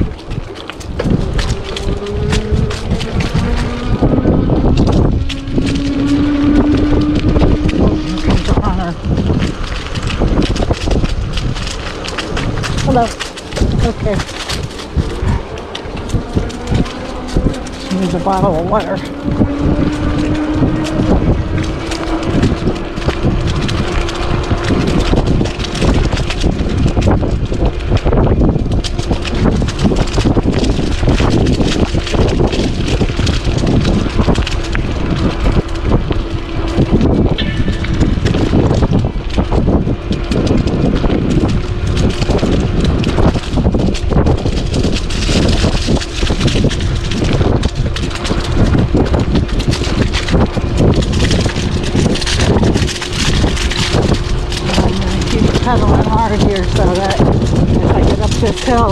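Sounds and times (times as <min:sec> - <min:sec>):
sharp crackles and clicks: 0:00.0 - 0:58.9
tyres rolling over leaves: 0:00.0 - 0:58.9
wind buffeting microphone: 0:00.0 - 0:58.9.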